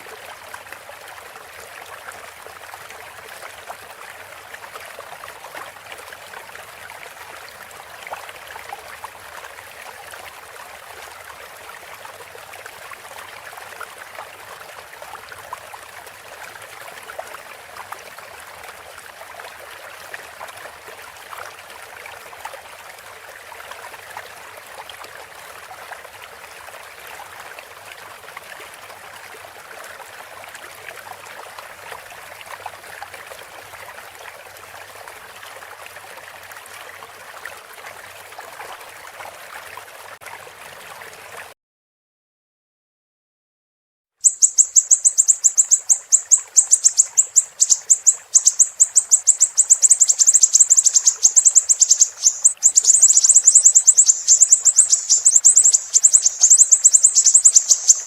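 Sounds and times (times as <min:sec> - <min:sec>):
stream trickling and babbling: 0:00.0 - 0:41.6, 0:44.2 - 0:58.0.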